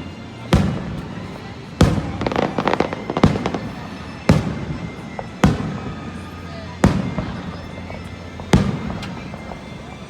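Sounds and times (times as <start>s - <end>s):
fireworks crackling: 0.0s - 10.0s
fireworks bangs: 0.3s - 10.0s.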